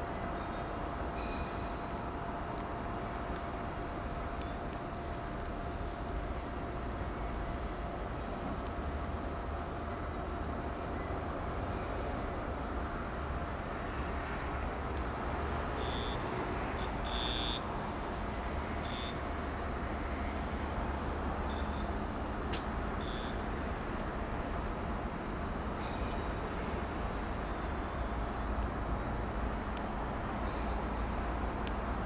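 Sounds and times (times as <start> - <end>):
outdoor background rumble and hiss: 0.0 - 32.0.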